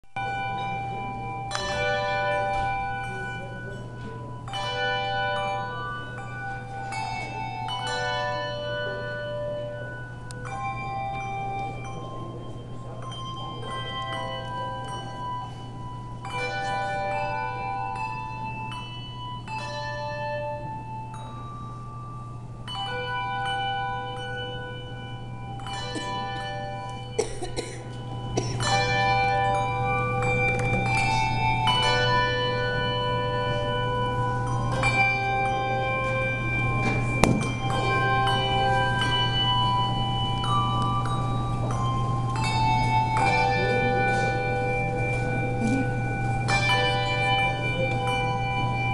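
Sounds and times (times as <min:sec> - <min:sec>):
handbell chords ringing: 0:00.1 - 0:48.9
steady low hum: 0:00.2 - 0:48.9.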